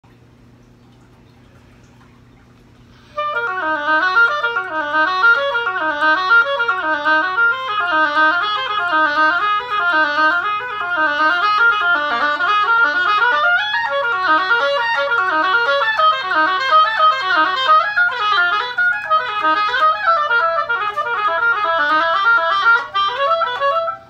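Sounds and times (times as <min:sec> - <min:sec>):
solo oboe playing fast figures: 0:02.8 - 0:24.0.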